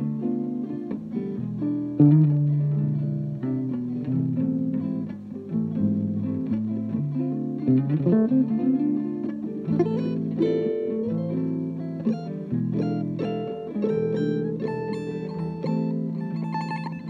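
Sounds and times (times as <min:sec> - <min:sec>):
acoustic guitar gypsy jazz: 0:00.0 - 0:17.0.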